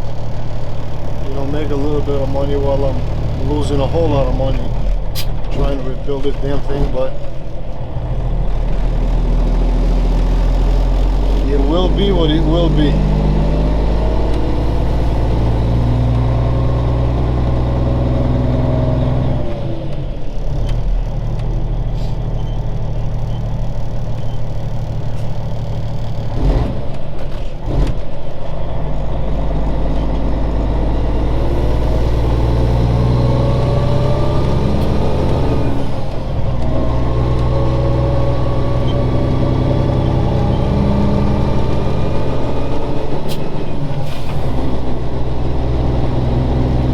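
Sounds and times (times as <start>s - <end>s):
diesel truck engine accelerating: 0.0s - 46.9s.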